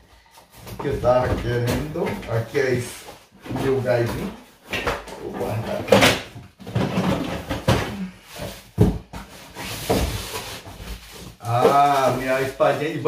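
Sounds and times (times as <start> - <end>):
cardboard rustling and scraping: 0.1 - 13.0.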